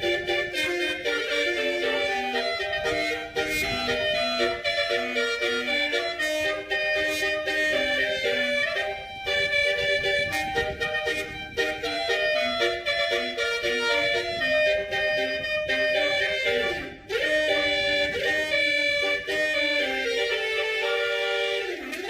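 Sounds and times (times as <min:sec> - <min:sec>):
musical vehicle horn melody: 0:00.0 - 0:22.0.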